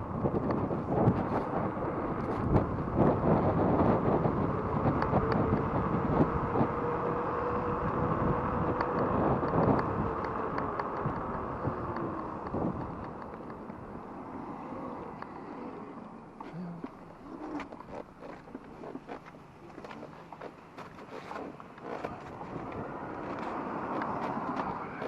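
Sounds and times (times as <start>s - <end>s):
faint whine: 0.0s - 25.0s
tyre and road noise: 0.0s - 25.0s
wind buffeting microphone: 0.0s - 25.0s.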